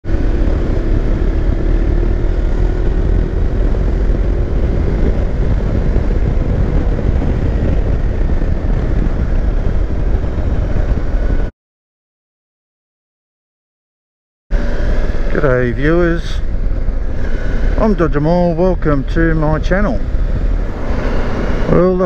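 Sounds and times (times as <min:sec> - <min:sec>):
motorcycle engine running: 0:00.0 - 0:11.5, 0:14.5 - 0:22.0
wind rumble on microphone: 0:00.0 - 0:11.5, 0:14.6 - 0:22.0.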